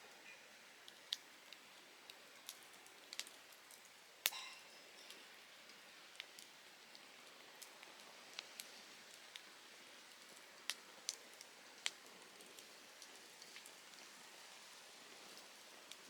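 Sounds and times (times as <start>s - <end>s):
faint steady hiss: 0.0s - 16.0s
campfire crackling and popping: 0.7s - 16.0s.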